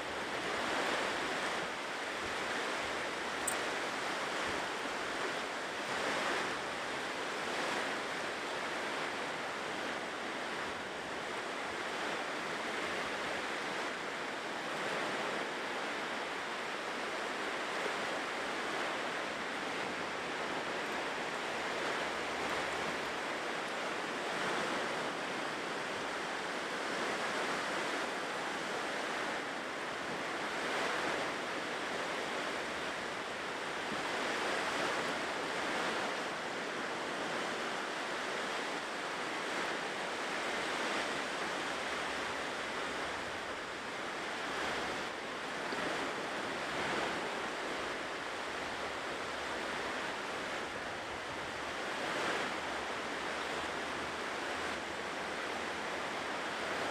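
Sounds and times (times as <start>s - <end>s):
ocean waves washing onto shore: 0.0s - 56.9s.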